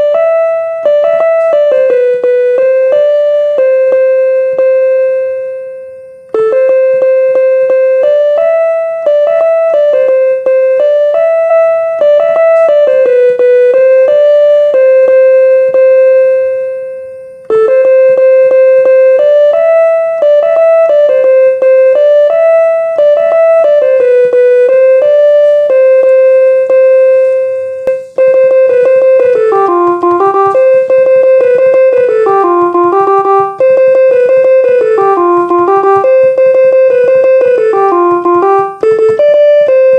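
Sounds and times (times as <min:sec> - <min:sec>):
piano melody: 0:00.0 - 0:39.9.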